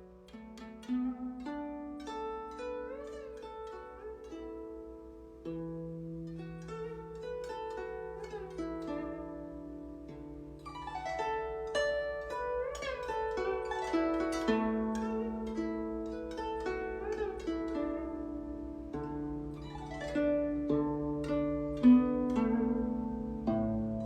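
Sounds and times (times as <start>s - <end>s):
plucked zither notes: 0.0s - 24.0s.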